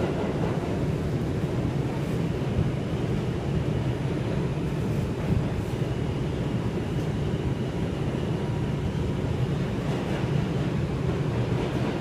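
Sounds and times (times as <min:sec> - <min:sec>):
subway car rumbling in tunnel: 0:00.0 - 0:12.0.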